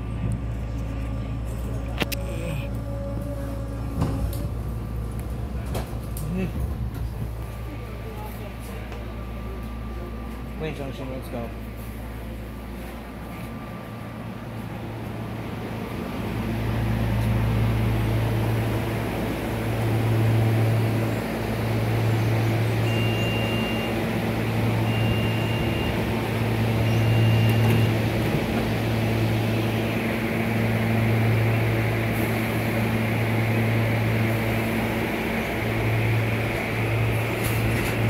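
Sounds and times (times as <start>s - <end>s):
train equipment humming: 0.0s - 38.0s.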